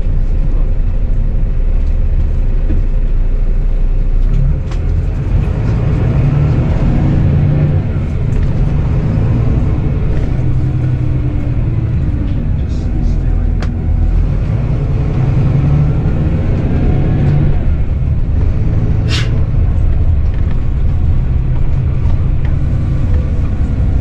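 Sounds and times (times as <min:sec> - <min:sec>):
diesel engine droning: 0:00.0 - 0:24.0
road rumble: 0:00.0 - 0:24.0.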